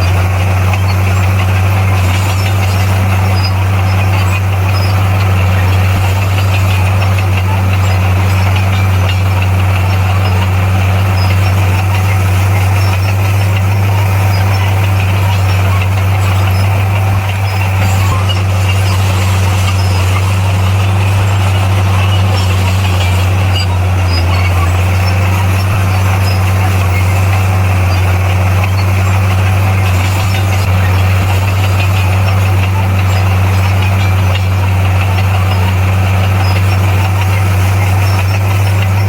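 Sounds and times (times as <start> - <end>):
bulldozer diesel engine: 0.0 - 39.0
mechanical rattle: 0.0 - 39.0.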